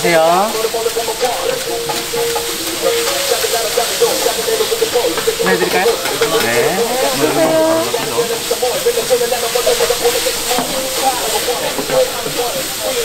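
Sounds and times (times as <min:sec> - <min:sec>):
noodles sizzling on a griddle: 0:00.0 - 0:13.0
spatulas stirring food: 0:00.0 - 0:13.0.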